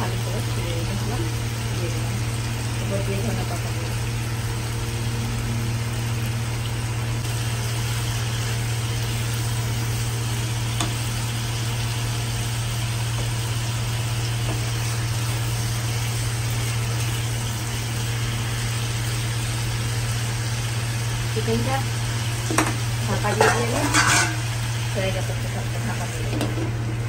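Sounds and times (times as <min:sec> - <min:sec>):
food frying in a pan: 0:00.0 - 0:27.0.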